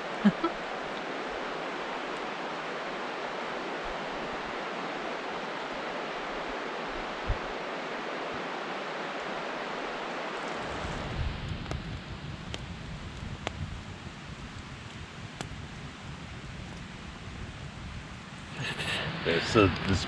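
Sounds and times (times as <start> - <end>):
campfire crackling: 0.0 - 20.0
stream running over rocks: 0.0 - 20.0.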